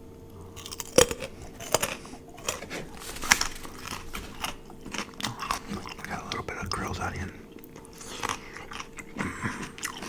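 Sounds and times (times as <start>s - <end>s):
crunchy chewing: 0.0s - 10.0s.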